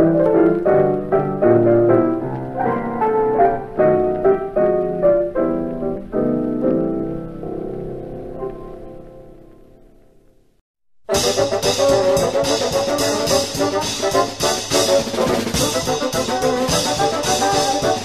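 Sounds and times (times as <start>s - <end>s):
piano music: 0.0s - 10.3s, 11.1s - 18.0s.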